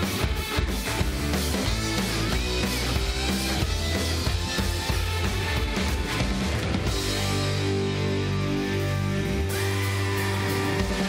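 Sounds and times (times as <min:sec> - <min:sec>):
rock music sustained chord: 0:00.0 - 0:09.6.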